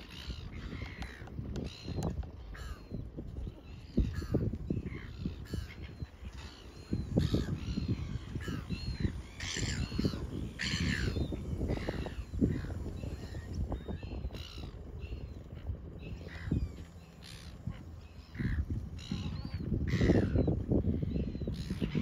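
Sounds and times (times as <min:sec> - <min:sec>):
gulls squawking: 0:00.0 - 0:22.0.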